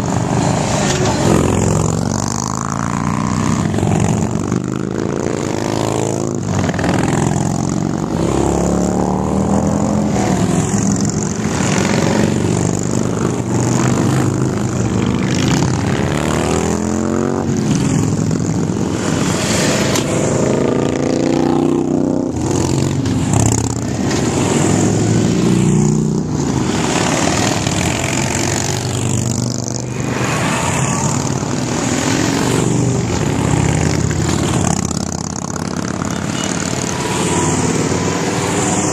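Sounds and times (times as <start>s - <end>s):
motorcycles riding past: 0.0s - 38.9s.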